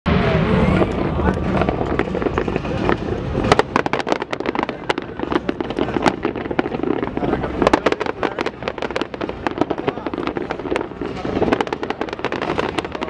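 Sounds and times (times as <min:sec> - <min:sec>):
fireworks bangs and crackles: 0:00.1 - 0:13.0.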